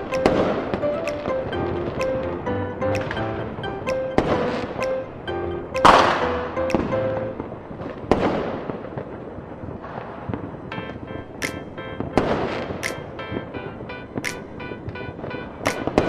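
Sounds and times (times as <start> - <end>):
fireworks bangs: 0.0 - 5.2, 5.8 - 16.0
background music: 0.0 - 7.7, 10.7 - 16.0.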